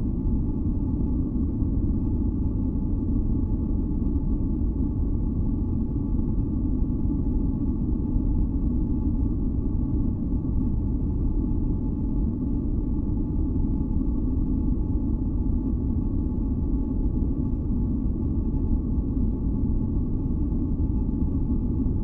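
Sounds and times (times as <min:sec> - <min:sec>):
faint humming tones: 0:00.0 - 0:22.0.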